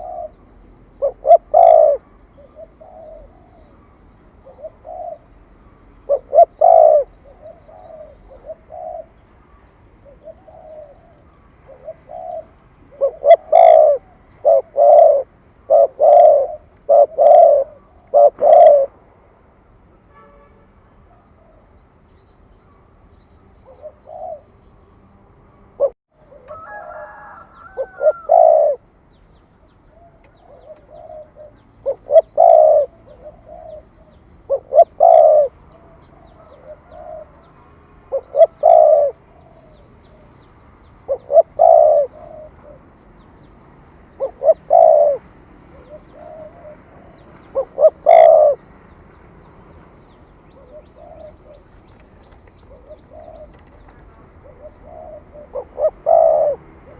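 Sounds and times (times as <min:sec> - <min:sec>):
dove cooing: 0:00.0 - 0:19.0, 0:23.6 - 0:24.6, 0:25.7 - 0:29.1, 0:29.8 - 0:43.5, 0:44.1 - 0:49.0, 0:50.0 - 0:56.9.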